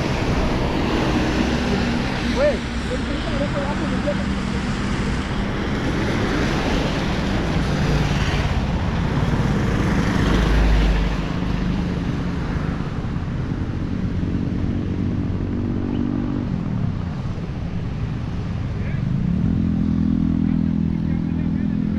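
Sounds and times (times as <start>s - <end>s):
vehicle engines passing: 0.0s - 21.9s.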